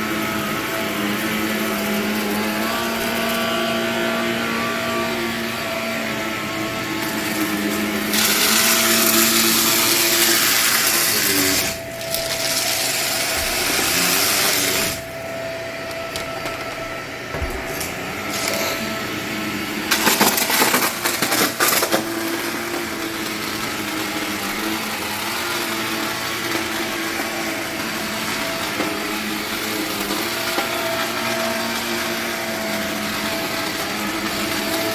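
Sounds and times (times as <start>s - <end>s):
vacuum cleaner on carpet: 0.0s - 34.9s.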